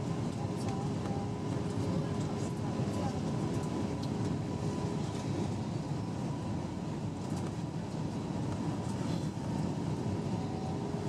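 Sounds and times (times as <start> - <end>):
airflow over airframe: 0.0 - 11.0
faint steady whine: 0.0 - 11.0.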